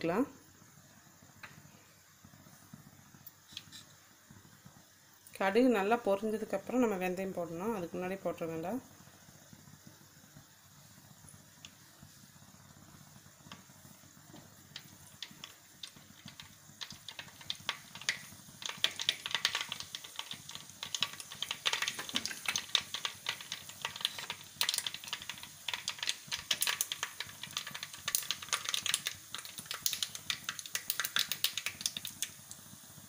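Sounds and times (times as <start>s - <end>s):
seeds popping in hot oil: 0.0s - 33.0s.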